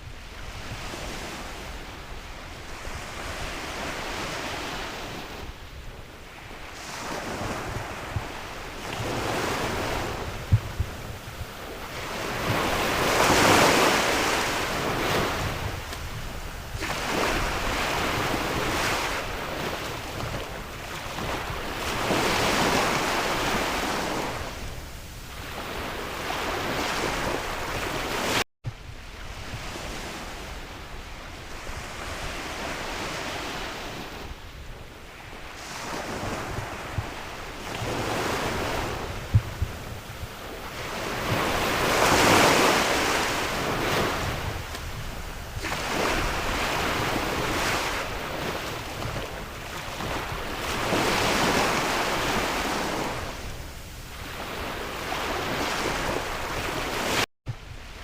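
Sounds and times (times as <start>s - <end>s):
sea waves breaking ashore: 0.0s - 58.0s
wind rumbling on microphone: 0.0s - 58.0s.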